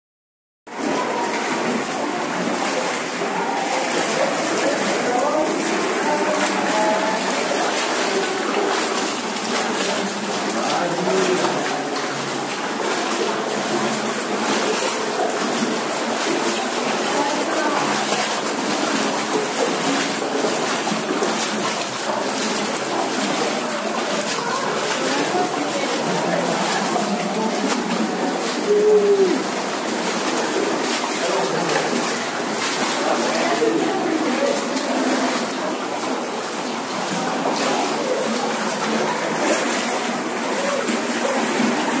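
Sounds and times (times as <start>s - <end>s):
water splashing from wading: 0.7s - 42.0s.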